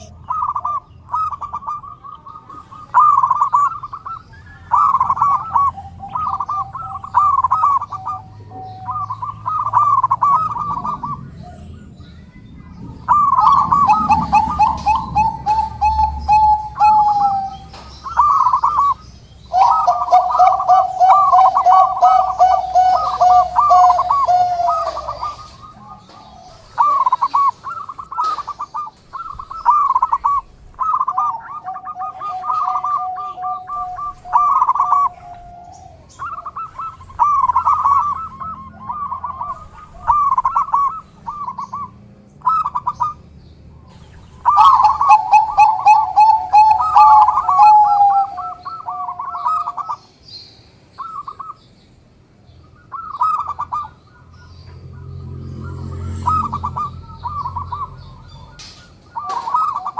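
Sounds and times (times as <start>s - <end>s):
dove cooing: 0.0s - 43.2s, 43.9s - 50.1s, 52.8s - 59.9s.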